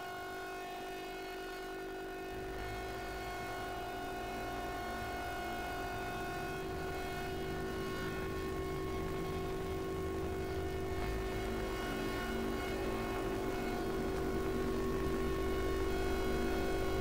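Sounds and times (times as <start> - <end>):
ominous electronic drone: 2.3 - 17.0.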